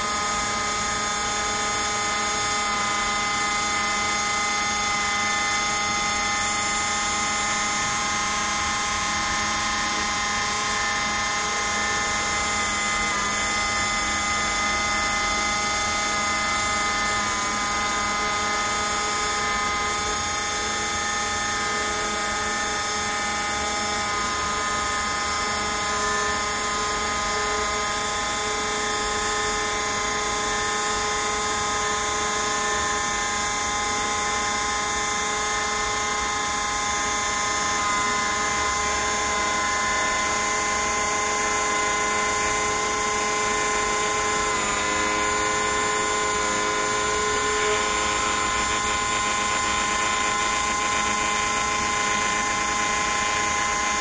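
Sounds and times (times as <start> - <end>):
cnc router spindle whine: 0.0 - 54.0.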